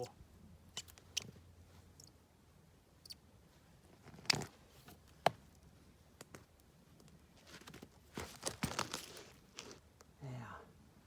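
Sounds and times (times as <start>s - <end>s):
rustles: 0.0s - 10.2s.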